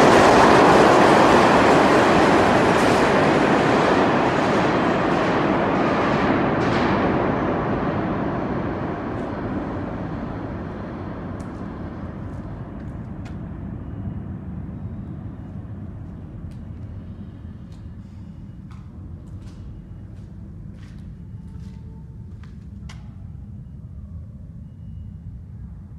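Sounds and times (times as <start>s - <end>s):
subway train rumbling past: 0.0s - 25.9s.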